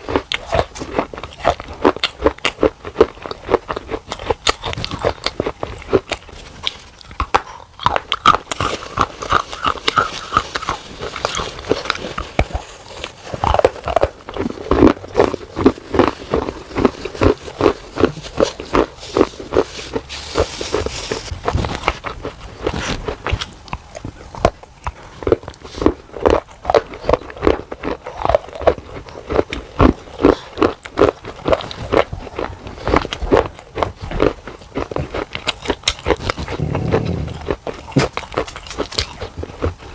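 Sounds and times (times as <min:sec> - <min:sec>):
crunchy chewing of clay: 0:00.0 - 0:39.9.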